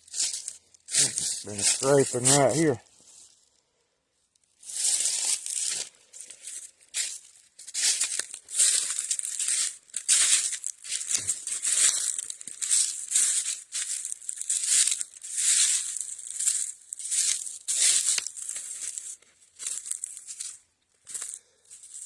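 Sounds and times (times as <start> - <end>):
footsteps crunching dry leaves: 0.0 - 3.5, 4.6 - 22.0.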